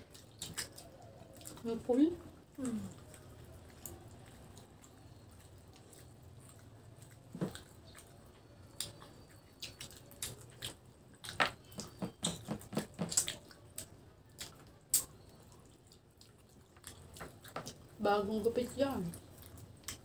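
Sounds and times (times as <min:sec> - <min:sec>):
wet chewing and lip-smacking: 0:00.0 - 0:20.0.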